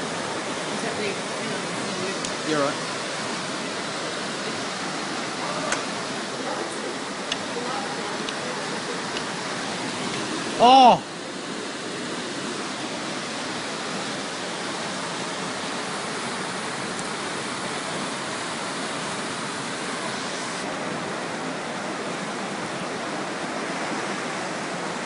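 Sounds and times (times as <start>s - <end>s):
flood water rushing: 0.0s - 25.0s.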